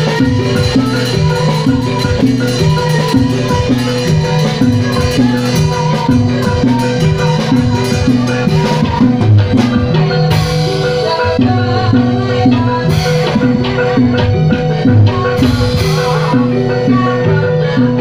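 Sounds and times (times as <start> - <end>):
drum strokes: 0.0 - 18.0
metallophones playing a pattern: 0.0 - 18.0.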